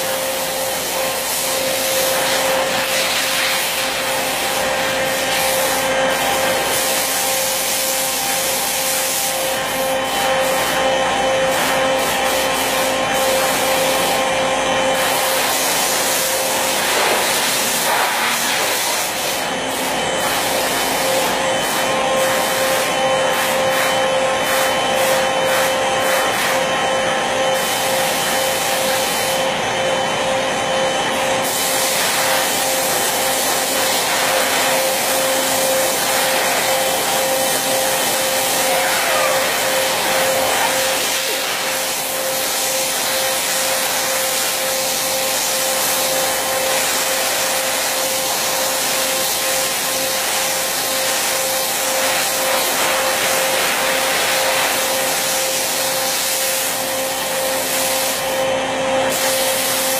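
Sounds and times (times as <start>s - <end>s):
router spindle whine: 0.0s - 59.9s.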